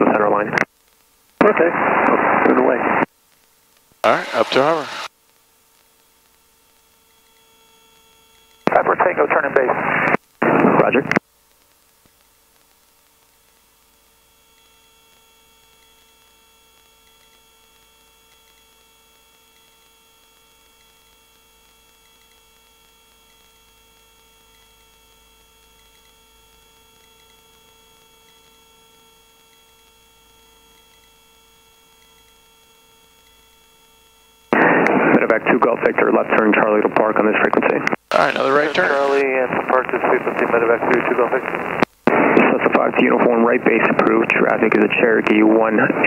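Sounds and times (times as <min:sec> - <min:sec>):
faint electrical hum: 0:00.0 - 0:46.0
low hiss: 0:00.1 - 0:24.2, 0:25.5 - 0:46.0.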